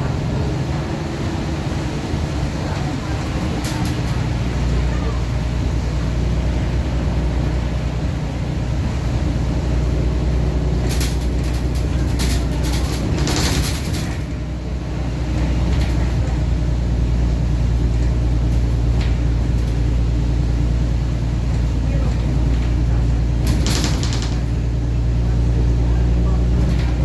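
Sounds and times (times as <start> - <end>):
bus engine with blown exhaust: 0.0 - 27.0.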